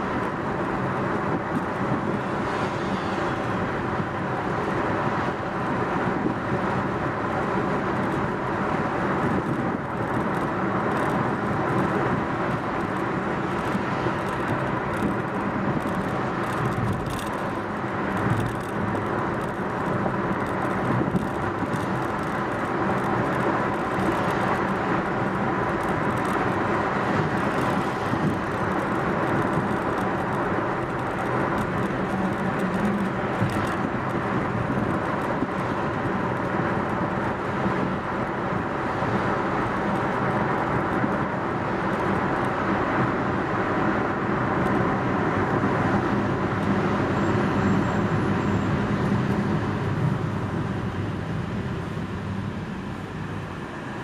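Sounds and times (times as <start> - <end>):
tyres rolling on asphalt: 0.0 - 54.0.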